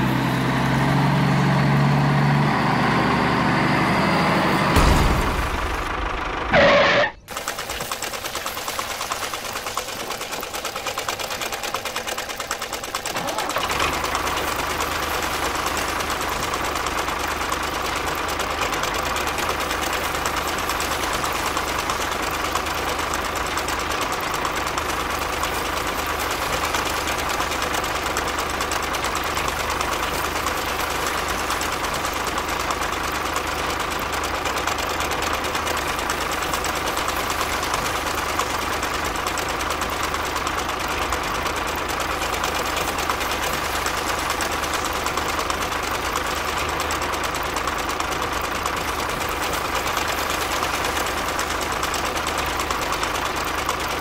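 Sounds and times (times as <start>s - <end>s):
model tractor engine chatter: 6.1s - 54.0s.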